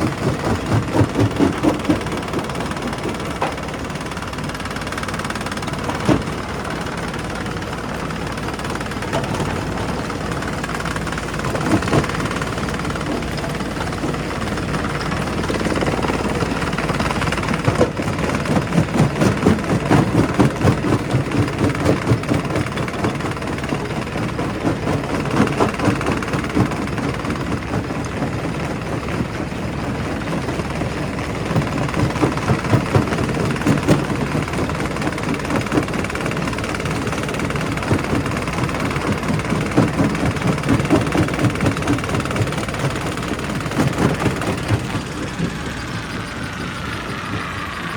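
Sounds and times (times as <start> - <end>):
rock crusher running: 0.0 - 47.9.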